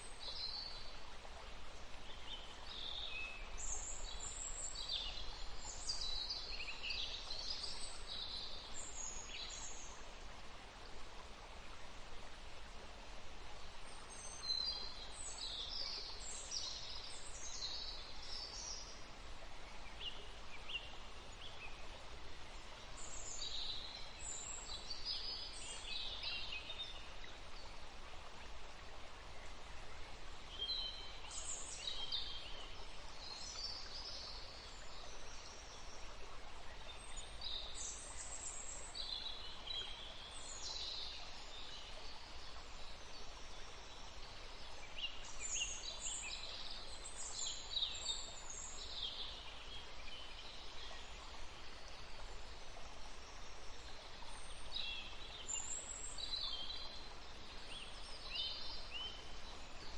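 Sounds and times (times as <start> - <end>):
outdoor background hiss: 0.0 - 59.9.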